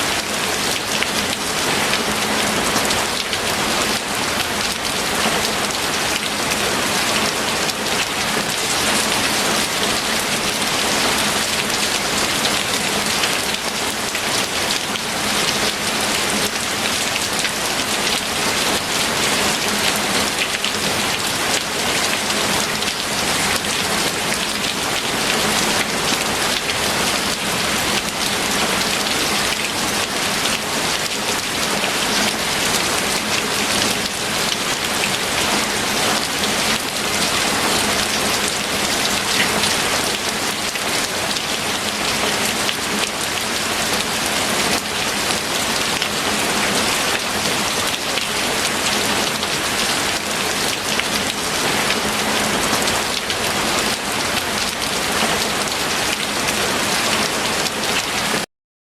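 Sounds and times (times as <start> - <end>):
steady rain falling: 0.0 - 58.5.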